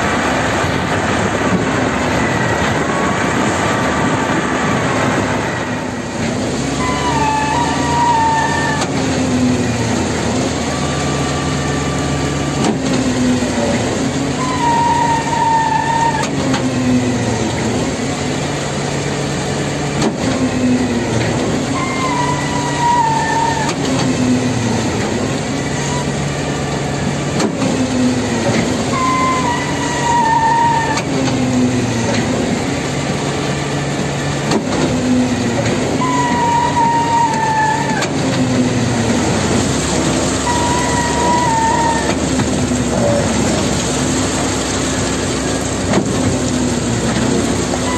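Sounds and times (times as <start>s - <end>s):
diesel engine running: 0.0s - 47.9s
rhythmic concrete pump strokes: 0.0s - 47.9s.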